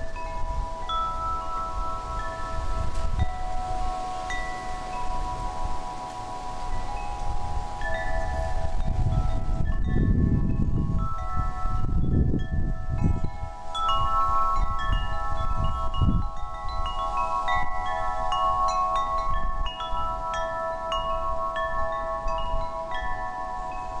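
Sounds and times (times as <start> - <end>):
wind chimes ringing: 0.0 - 24.0.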